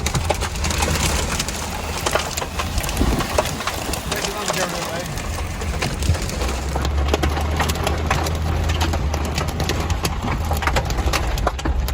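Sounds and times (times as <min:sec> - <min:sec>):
raindrops clicking on cab roof: 0:00.0 - 0:11.9
tractor engine humming: 0:00.0 - 0:11.9.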